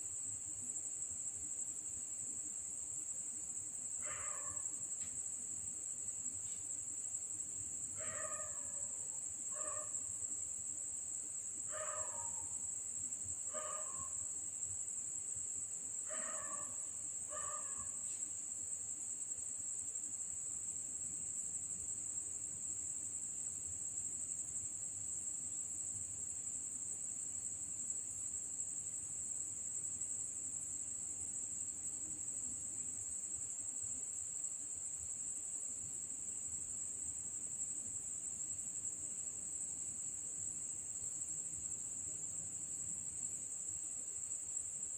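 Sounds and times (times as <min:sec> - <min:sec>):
crickets trilling: 0:00.0 - 0:44.9.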